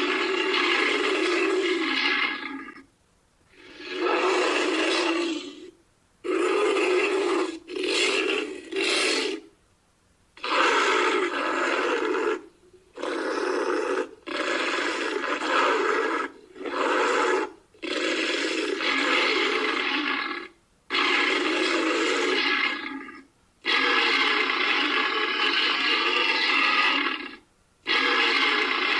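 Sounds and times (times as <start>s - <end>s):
animal growling roars and grunts: 0.0s - 2.8s, 3.5s - 9.5s, 10.4s - 28.9s.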